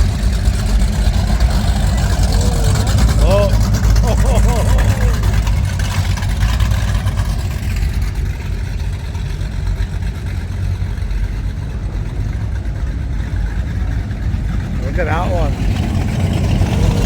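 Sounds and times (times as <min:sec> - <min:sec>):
powerboat engines rumbling: 0:00.0 - 0:17.0.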